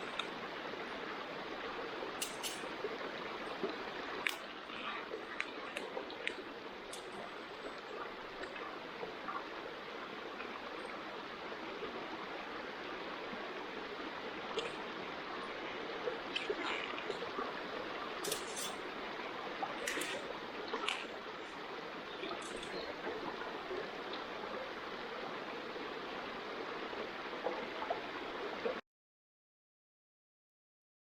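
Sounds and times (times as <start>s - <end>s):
campfire hissing: 0.0s - 26.0s.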